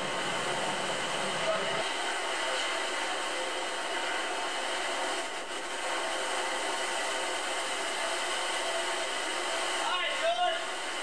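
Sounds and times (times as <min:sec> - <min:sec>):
driving rain: 0:00.0 - 0:11.0.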